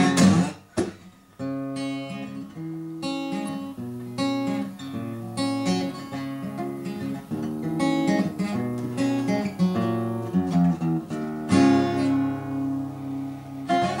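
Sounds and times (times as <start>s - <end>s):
solo acoustic guitar: 0.0s - 14.0s.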